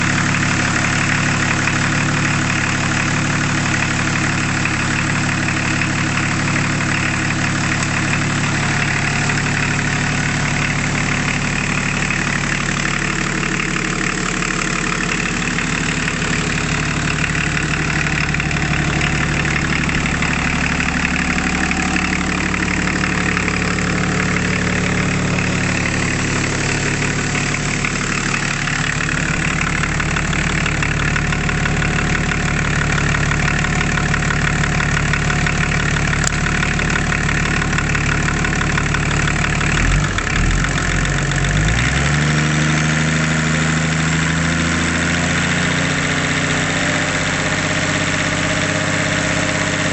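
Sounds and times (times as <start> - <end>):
marine diesel engine running: 0.0 - 41.8, 42.6 - 49.9.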